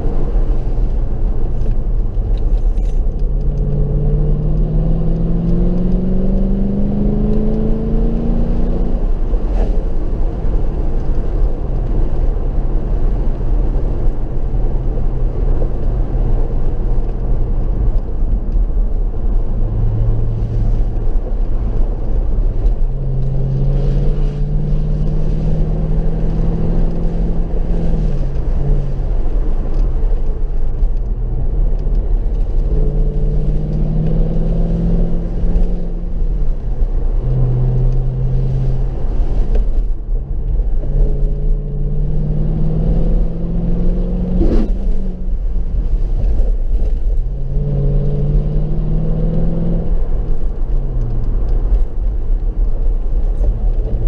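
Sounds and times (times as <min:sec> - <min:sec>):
car engine accelerating: 0:00.0 - 0:54.0
low road rumble: 0:00.0 - 0:54.0.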